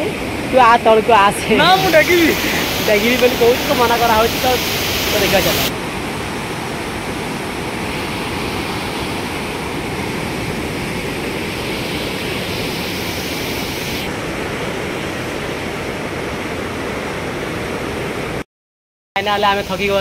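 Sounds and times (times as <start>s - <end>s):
river rushing through rapids: 0.0s - 18.4s.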